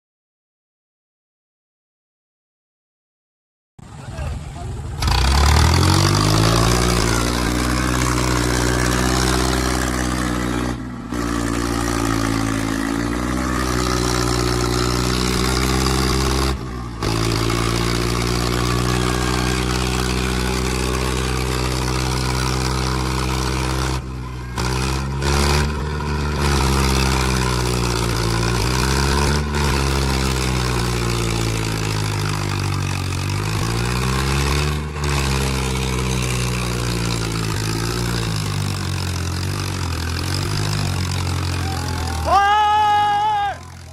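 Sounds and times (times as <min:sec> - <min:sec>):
tractor engines labouring: 0:03.8 - 0:43.9.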